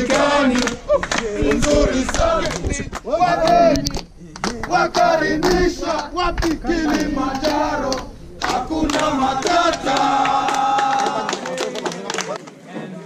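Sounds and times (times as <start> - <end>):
group chanting and singing: 0.0 - 11.6.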